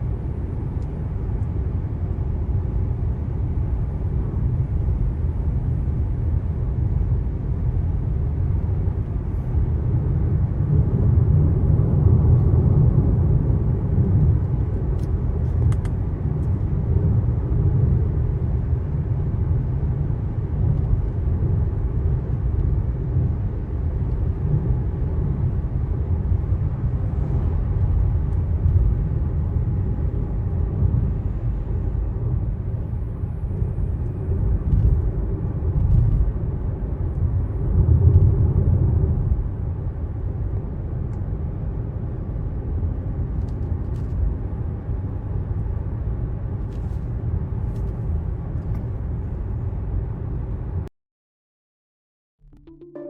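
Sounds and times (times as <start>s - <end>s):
low rumble of road and engine: 0.0s - 50.9s.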